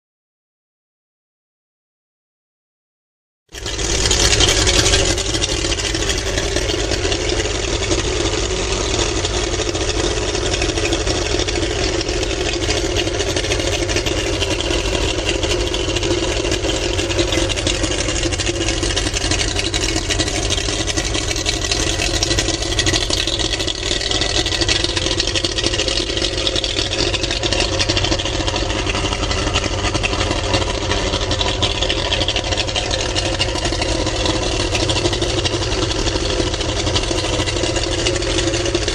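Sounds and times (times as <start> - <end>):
outboard motor idling: 3.5 - 38.9.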